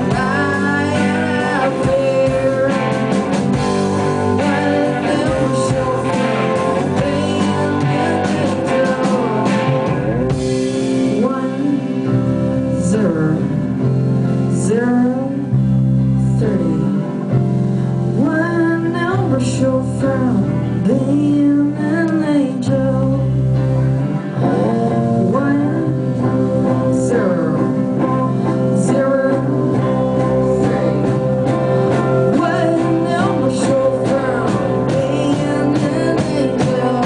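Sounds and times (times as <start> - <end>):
bass line: 0.0 - 37.0
drums: 0.0 - 37.0
electric guitar: 0.0 - 37.0
person singing: 0.0 - 37.0.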